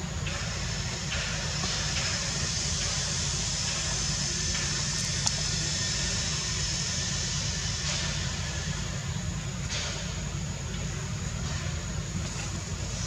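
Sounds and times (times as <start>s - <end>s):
hiss: 0.0s - 13.0s.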